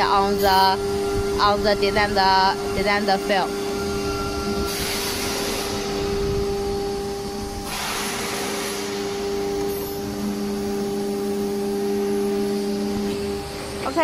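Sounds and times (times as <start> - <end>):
spindle motor whine: 0.0 - 14.0.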